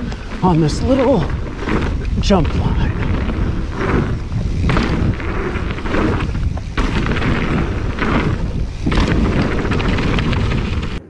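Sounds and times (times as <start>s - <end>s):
bike tyre and trail noise: 0.0s - 11.0s
wind buffeting microphone: 0.0s - 11.0s.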